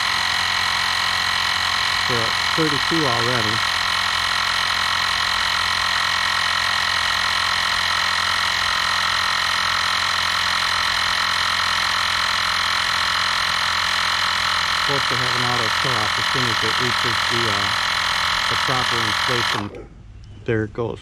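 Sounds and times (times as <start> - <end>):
air compressor whining: 0.0 - 20.0.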